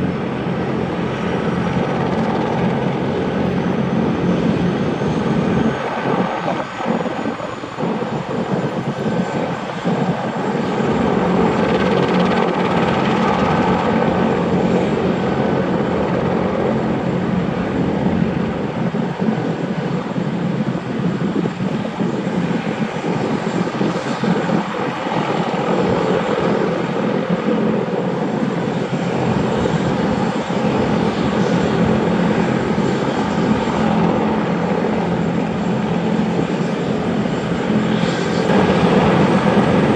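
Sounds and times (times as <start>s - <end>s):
helicopter rotor and exhaust: 0.0s - 39.9s
helicopter turbine whine: 0.0s - 39.9s.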